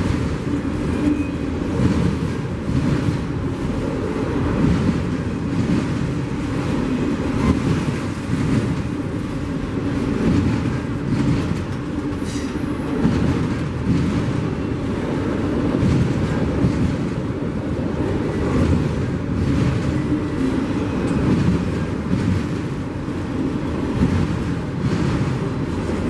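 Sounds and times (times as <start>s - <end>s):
train wheels rumbling on rails: 0.0s - 26.0s
wind buffeting microphone: 0.0s - 26.0s.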